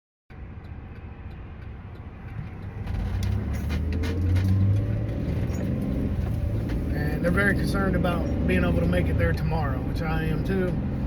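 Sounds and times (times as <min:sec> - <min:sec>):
engine and road noise: 0:00.3 - 0:11.0.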